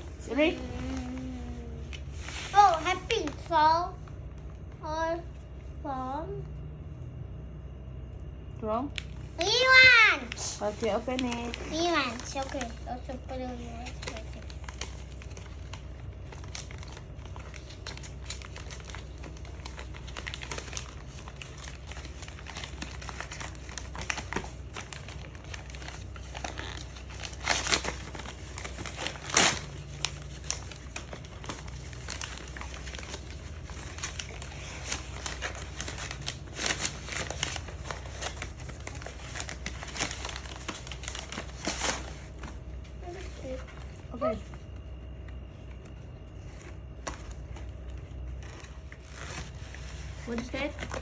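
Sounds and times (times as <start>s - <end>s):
wrapping paper crinkling and tearing: 0.0s - 3.6s, 9.4s - 44.4s, 45.4s - 51.0s.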